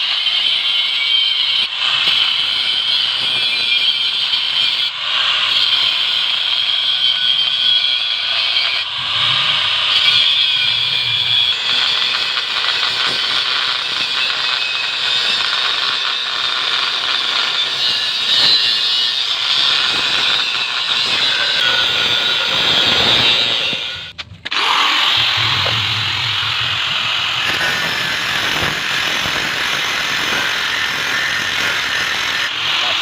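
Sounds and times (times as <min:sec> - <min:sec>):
power tool grinding steel: 0:00.0 - 0:33.0.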